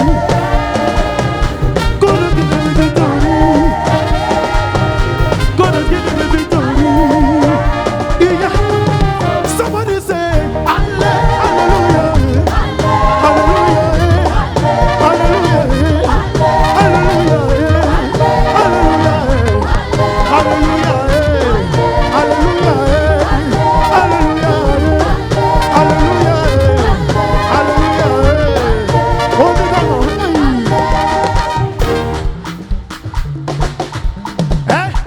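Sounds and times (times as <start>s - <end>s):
voices singing: 0.0s - 32.2s
live worship band music: 0.0s - 35.0s
steady drum beat: 0.0s - 35.0s.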